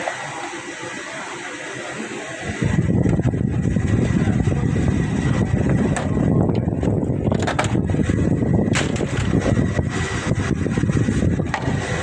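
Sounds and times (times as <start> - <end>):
copier document feeder running: 0.0 - 12.0.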